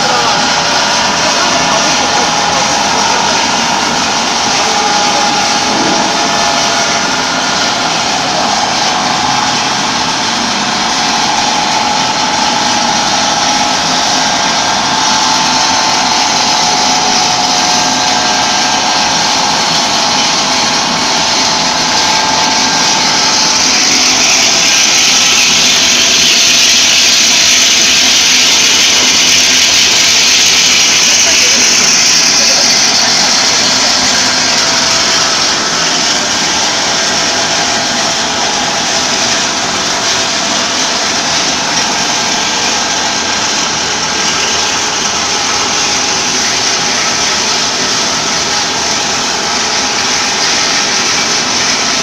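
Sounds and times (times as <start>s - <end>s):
machine hissing and humming: 0.0s - 52.0s
machine whine: 0.0s - 52.0s.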